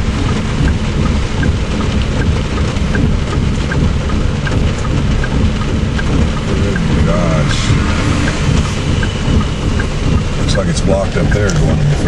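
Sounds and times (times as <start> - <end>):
deep rumble: 0.0 - 12.0
heavy rain: 0.0 - 12.0.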